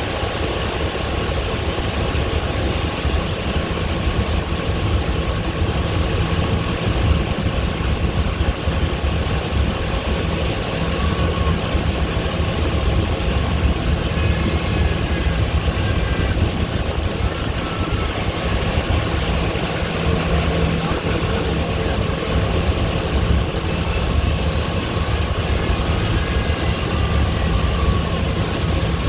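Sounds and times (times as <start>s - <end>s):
boat engine humming: 0.0s - 29.0s
rush of water noise: 0.0s - 29.0s.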